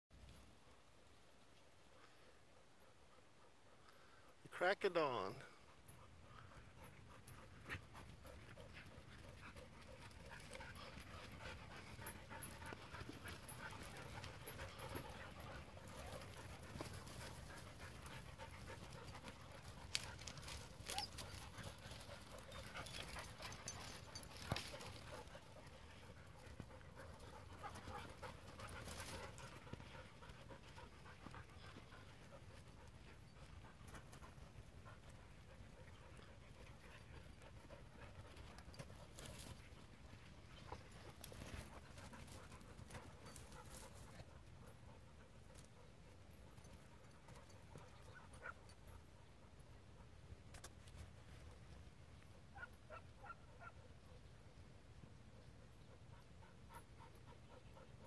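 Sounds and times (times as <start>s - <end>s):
dogs panting: 1.9s - 4.4s, 5.5s - 58.0s.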